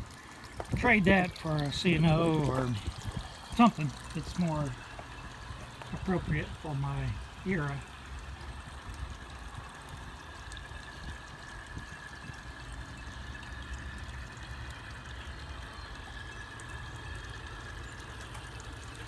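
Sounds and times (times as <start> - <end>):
faint steady whine: 0.0 - 19.0
model train rolling on track: 0.0 - 19.0.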